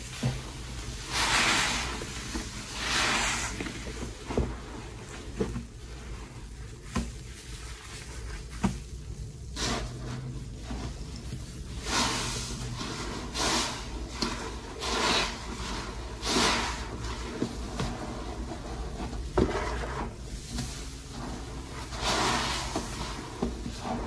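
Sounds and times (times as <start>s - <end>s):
wet fizzing sponge squelches: 0.0s - 24.0s.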